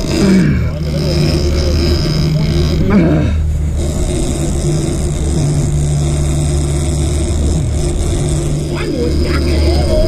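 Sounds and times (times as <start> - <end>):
boat engine drone: 0.0 - 10.0
wind: 0.0 - 10.0.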